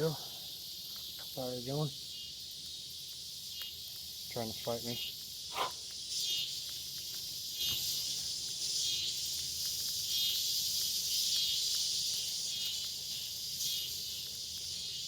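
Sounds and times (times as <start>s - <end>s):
insects chorus hissing: 0.0s - 15.0s.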